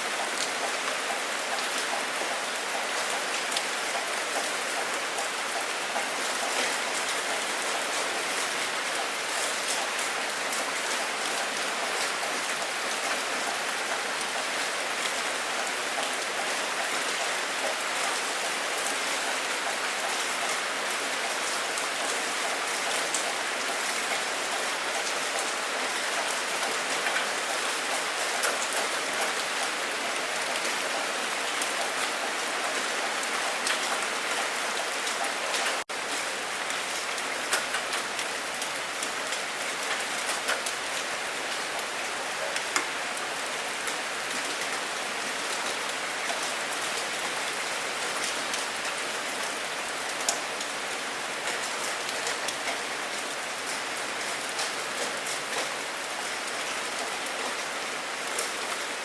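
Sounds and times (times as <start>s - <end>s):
heavy rain on hard surface: 0.0s - 59.0s.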